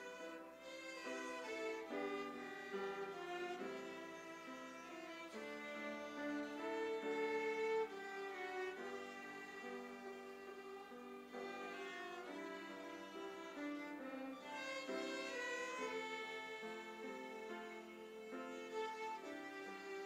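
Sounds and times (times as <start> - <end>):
violin playing slow melody: 0.0 - 20.0.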